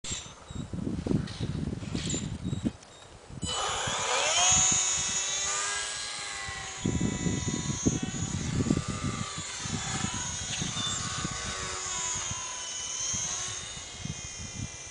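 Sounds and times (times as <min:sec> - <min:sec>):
electric motor and propeller whining: 0:00.0 - 0:14.9.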